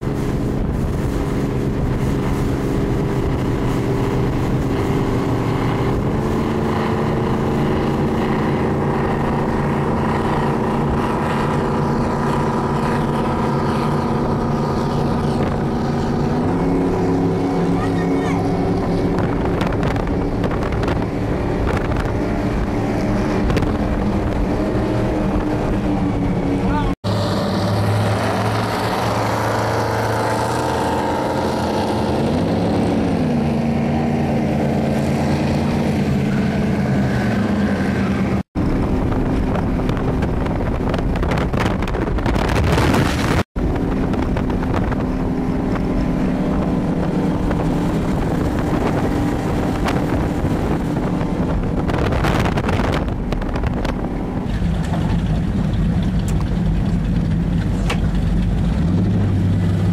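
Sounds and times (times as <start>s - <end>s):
powerboat engines running: 0.0s - 59.9s
wind buffeting microphone: 0.0s - 59.9s.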